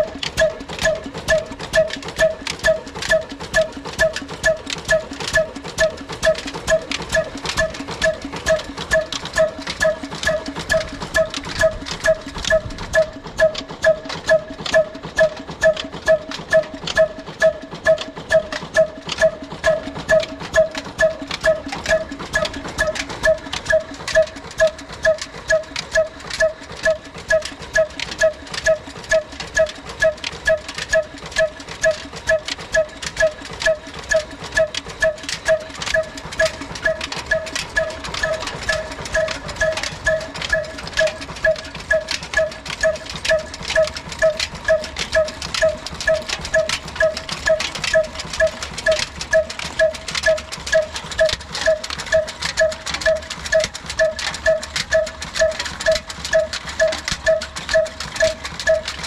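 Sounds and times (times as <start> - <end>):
diesel engine running with clank: 0.0 - 59.0.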